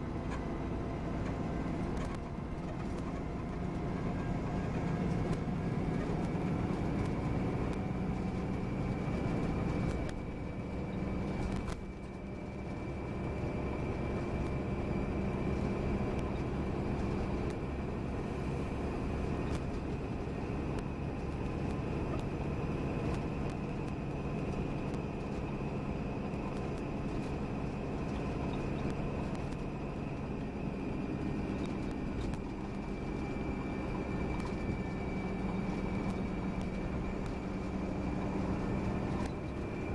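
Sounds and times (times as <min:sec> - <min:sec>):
diesel engine and road rumble: 0:00.0 - 0:39.9.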